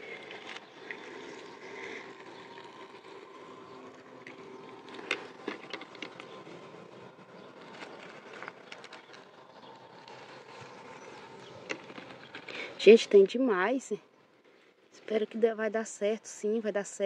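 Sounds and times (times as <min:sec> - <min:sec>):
distant engine humming: 0:00.0 - 0:16.0
outdoor background noise: 0:00.0 - 0:17.0.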